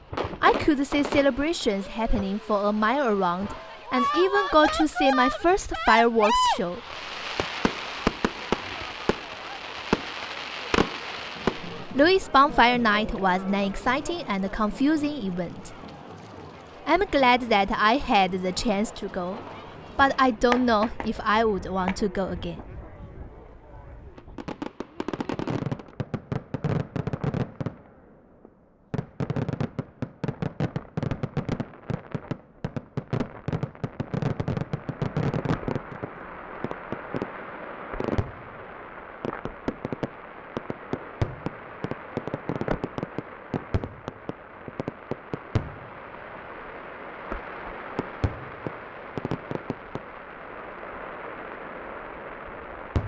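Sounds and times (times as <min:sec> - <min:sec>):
fireworks crackling bangs: 0:00.0 - 0:22.7, 0:24.1 - 0:28.0, 0:29.0 - 0:53.0.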